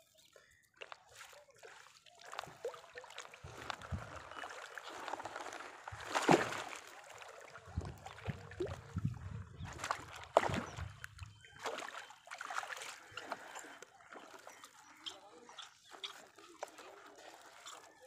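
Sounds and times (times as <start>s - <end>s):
water dripping and splashing: 0.3s - 18.0s.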